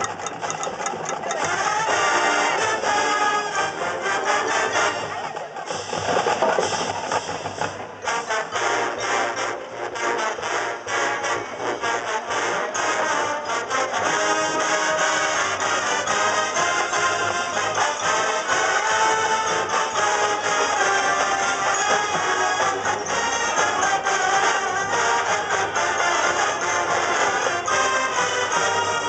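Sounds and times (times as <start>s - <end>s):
marching band playing jazz: 0.0s - 29.0s.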